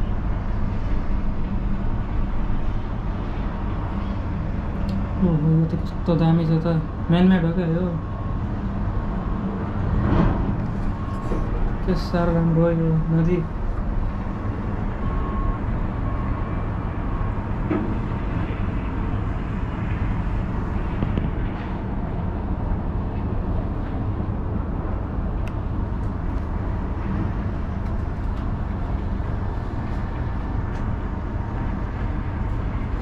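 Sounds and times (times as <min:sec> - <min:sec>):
cable car rumble and hum: 0:00.0 - 0:33.0.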